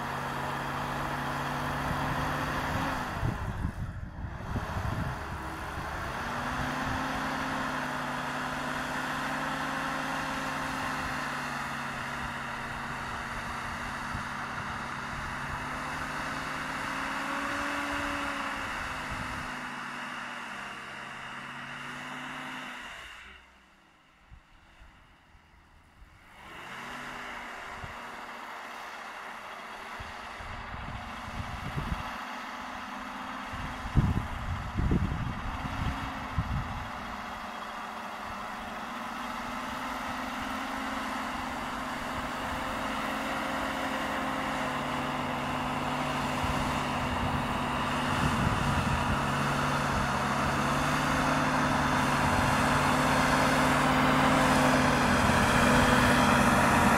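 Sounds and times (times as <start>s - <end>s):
truck engine running: 0.0s - 56.9s.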